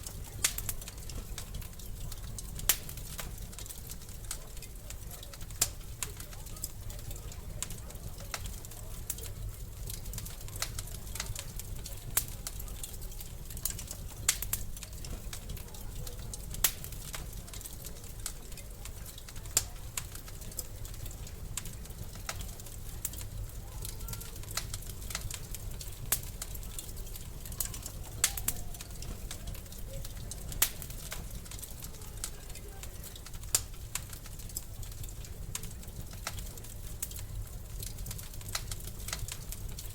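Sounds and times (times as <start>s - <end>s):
sharp fire snaps: 0.0s - 39.9s
wood fire crackling: 0.0s - 39.9s.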